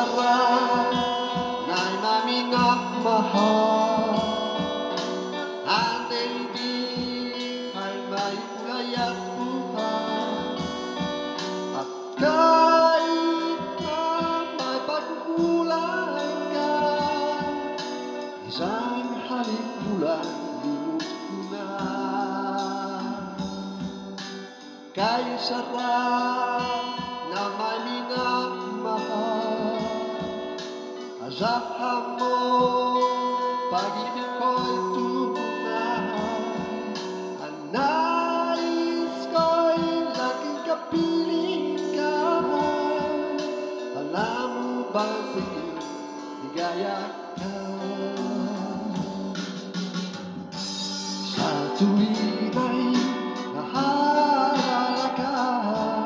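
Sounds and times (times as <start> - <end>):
man singing into microphone: 0.0 - 56.0
recorded backing track: 0.0 - 56.0.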